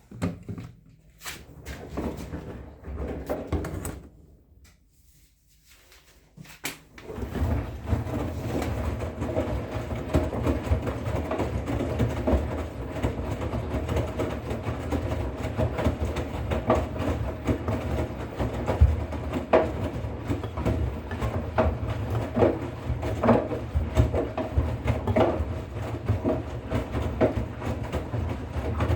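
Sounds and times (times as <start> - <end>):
washing machine rumbling: 0.0 - 4.6, 6.5 - 28.9.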